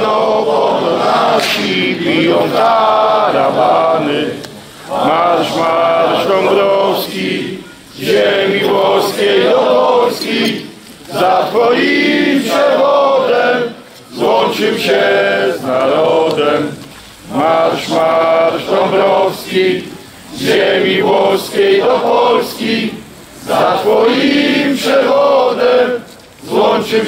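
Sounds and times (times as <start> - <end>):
crowd of men chanting: 0.0 - 27.0.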